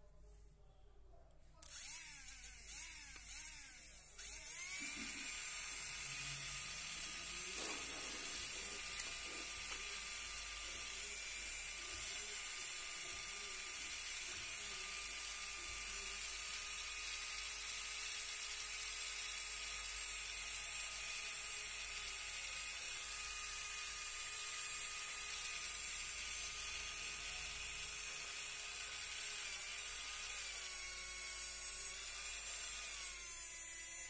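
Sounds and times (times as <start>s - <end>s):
small electric motor whining: 1.6s - 34.0s.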